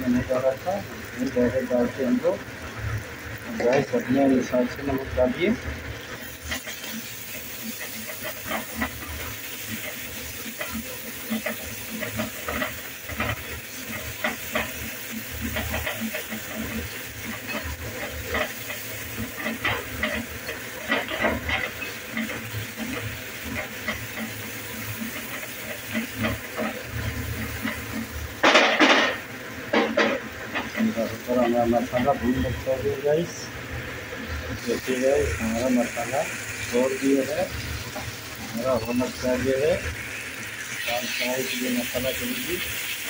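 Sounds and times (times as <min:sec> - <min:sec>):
sizzling in oil: 0:00.0 - 0:43.0.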